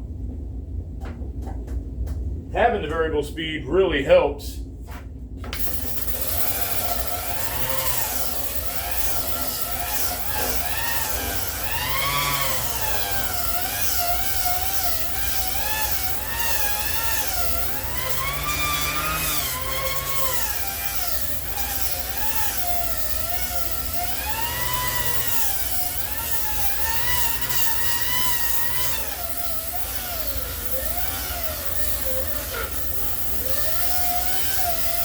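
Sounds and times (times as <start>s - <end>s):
angle grinder sanding wood: 5.6s - 35.0s.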